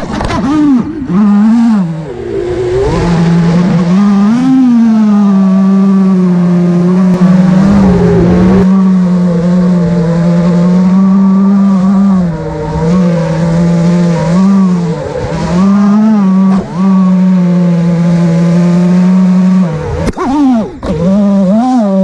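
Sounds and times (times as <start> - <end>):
drone motors whining: 0.1 - 22.0.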